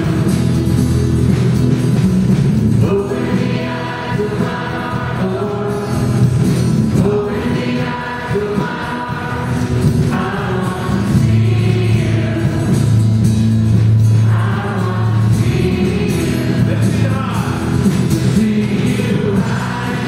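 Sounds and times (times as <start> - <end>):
acoustic guitar: 0.0 - 20.0
electric bass: 0.0 - 20.0
keyboard: 0.0 - 20.0
men and women singing together: 2.8 - 13.3, 14.1 - 20.0.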